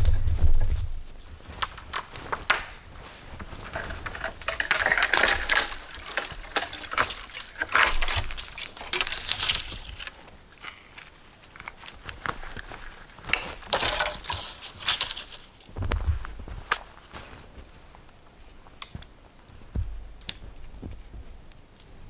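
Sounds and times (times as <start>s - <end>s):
branches and snow crunching: 0.0s - 22.0s.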